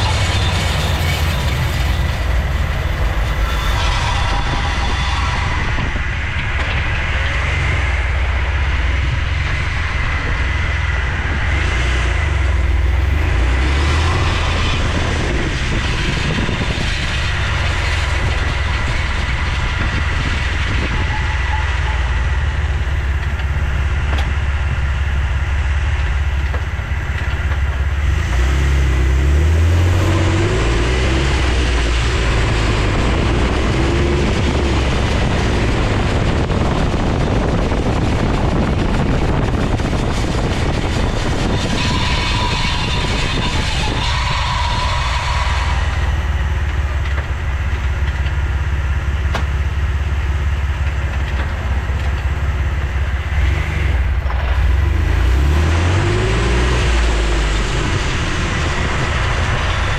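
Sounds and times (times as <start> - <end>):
vehicle drivetrain and road rumble: 0.0 - 59.9.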